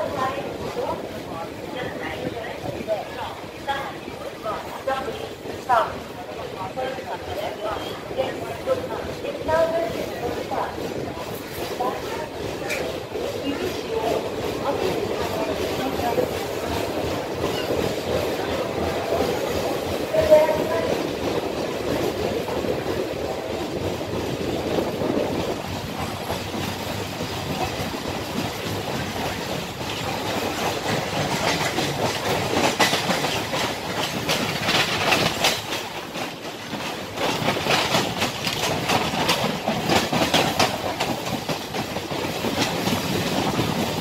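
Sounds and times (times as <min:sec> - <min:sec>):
train rumble: 0:00.0 - 0:44.0
wheels clicking over rail joints: 0:04.3 - 0:44.0.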